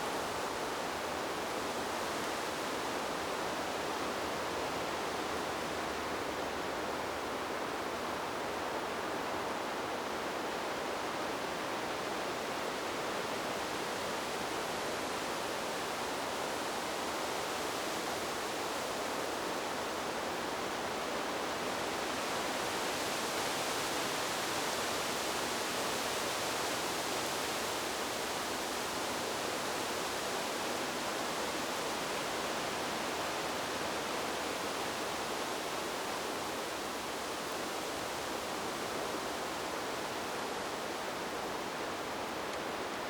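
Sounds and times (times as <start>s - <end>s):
wind blowing through trees: 0.0s - 43.0s.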